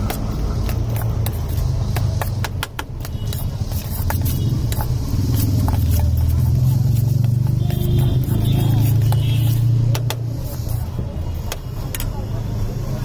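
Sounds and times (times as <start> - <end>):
metal spoon scraping steel bowl: 0.1 - 11.0.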